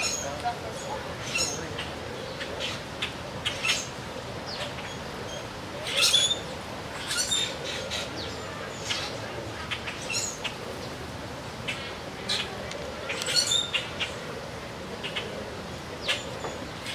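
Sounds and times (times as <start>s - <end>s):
birds chirping: 0.0s - 16.9s
steady background noise: 0.0s - 16.9s.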